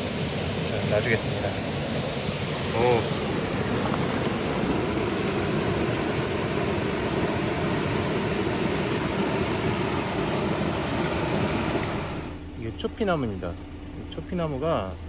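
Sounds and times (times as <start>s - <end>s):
water rushing over rocks: 0.0s - 12.4s.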